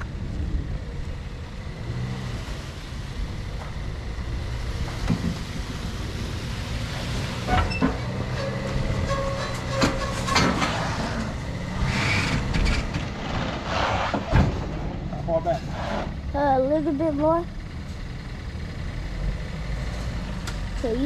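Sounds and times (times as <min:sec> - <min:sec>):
vehicle engine running: 0:00.0 - 0:13.6, 0:14.6 - 0:21.0.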